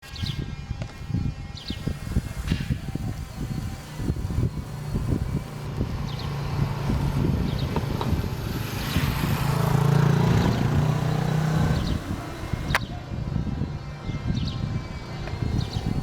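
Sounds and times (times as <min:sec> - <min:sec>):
wind buffeting microphone: 0:00.0 - 0:16.0
vehicle passing by: 0:01.8 - 0:16.0.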